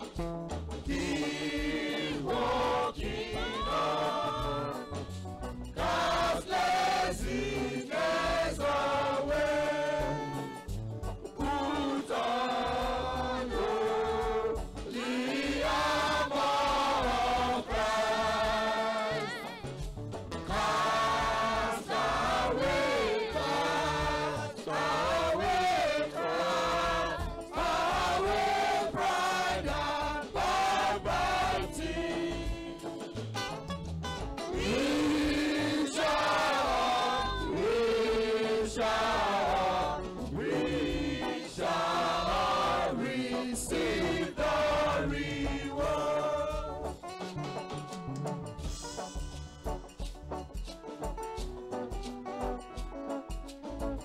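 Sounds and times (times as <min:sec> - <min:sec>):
choir singing a hymn: 0:00.8 - 0:10.8, 0:11.4 - 0:19.8, 0:20.4 - 0:33.2, 0:34.5 - 0:47.0.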